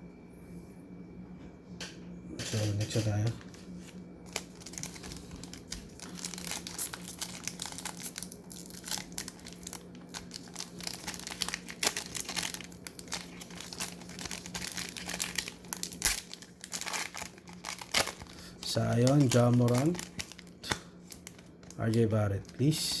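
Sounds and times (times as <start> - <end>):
faint steady hum: 0.0 - 23.0
wrapper crinkling: 2.5 - 23.0
plastic card pack tearing: 2.6 - 22.8.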